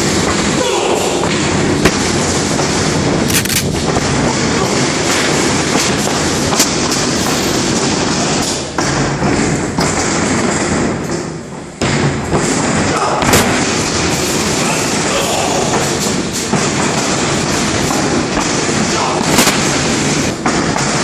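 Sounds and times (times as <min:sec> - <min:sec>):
loud rushing noise: 0:00.0 - 0:21.0.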